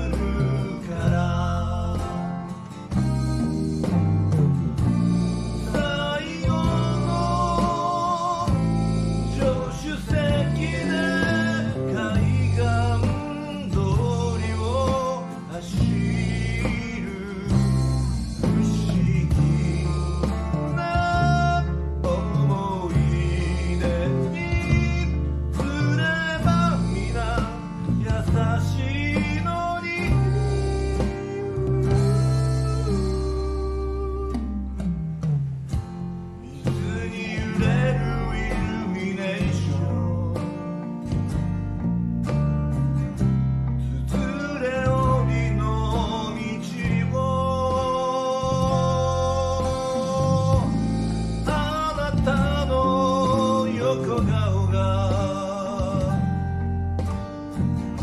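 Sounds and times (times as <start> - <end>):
man singing slow ballad: 0.0 - 4.0, 4.7 - 34.9, 36.4 - 41.4, 43.7 - 57.0
electric bass: 0.0 - 58.0
electric guitar: 0.0 - 58.0
keyboard: 0.0 - 58.0
strummed acoustic guitar: 0.0 - 58.0.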